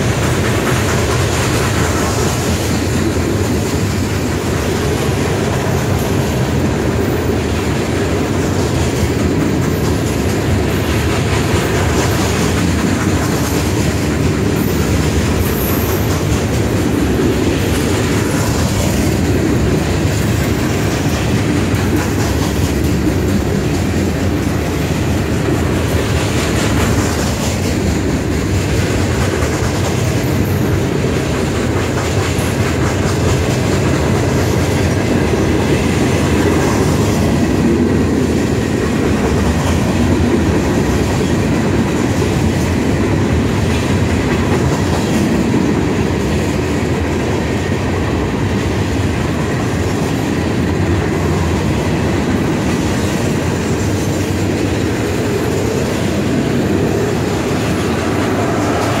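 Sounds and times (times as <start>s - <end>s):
freight train rolling past: 0.0s - 59.0s
wheels clacking over rail joints: 0.0s - 59.0s.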